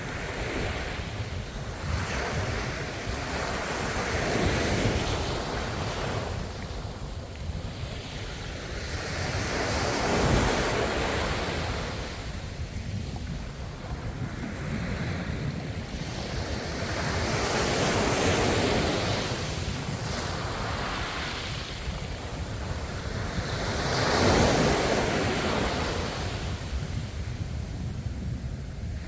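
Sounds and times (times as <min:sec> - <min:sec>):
ocean waves washing ashore: 0:00.0 - 0:29.0.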